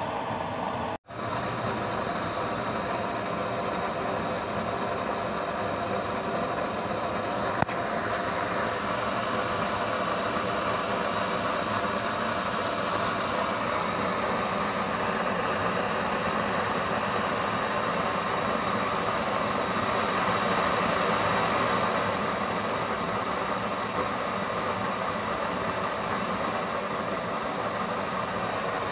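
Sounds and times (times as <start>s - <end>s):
burner stove rushing: 0.0s - 28.9s.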